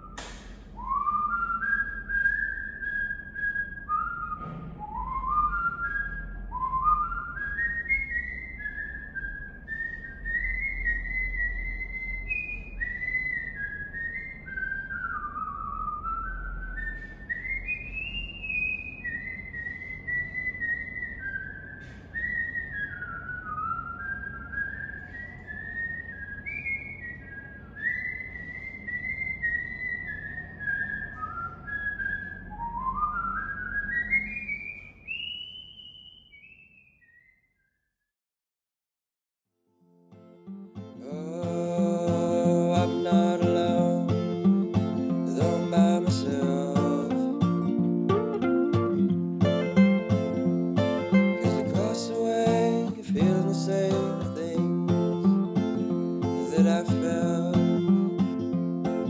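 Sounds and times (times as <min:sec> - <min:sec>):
person whistling a melody: 0:00.0 - 0:36.8, 0:40.5 - 0:59.0.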